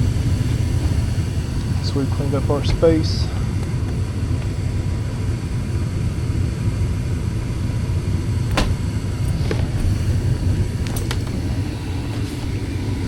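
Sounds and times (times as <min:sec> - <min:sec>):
gas furnace blower rumbling: 0:00.0 - 0:13.0.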